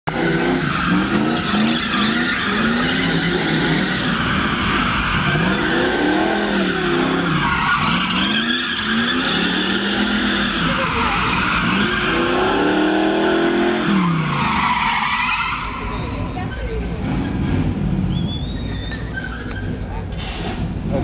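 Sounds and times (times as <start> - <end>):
car engines revving: 0.1 - 21.0
tyres squealing: 0.1 - 21.0.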